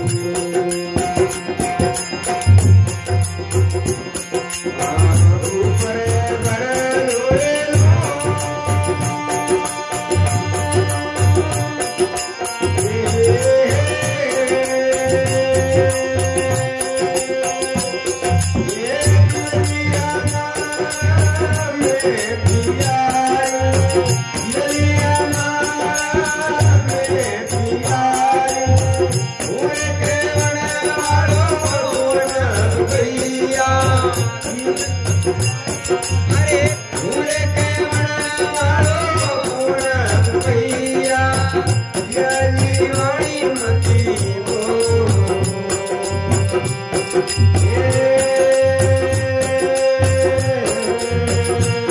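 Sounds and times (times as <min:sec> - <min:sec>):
harmonium droning melody: 0:00.0 - 0:51.9
man singing: 0:00.0 - 0:51.9.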